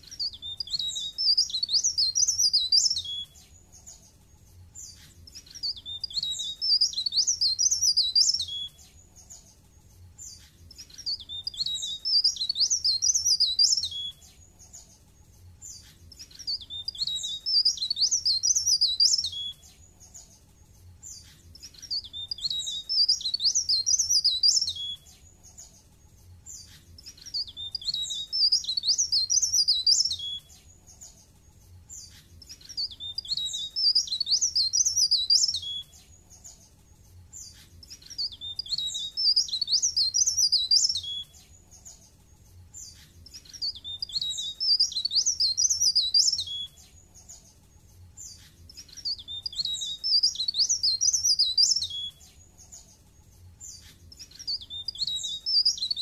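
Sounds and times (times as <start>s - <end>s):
songbird twittering: 0.0s - 56.0s.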